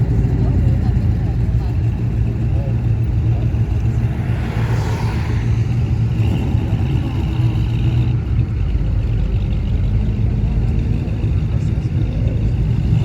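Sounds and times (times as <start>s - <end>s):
car engines rumbling past: 0.0s - 13.0s.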